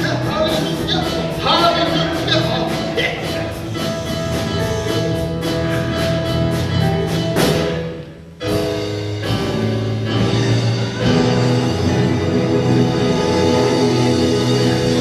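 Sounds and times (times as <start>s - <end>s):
orchestral music with drums: 0.0s - 15.0s.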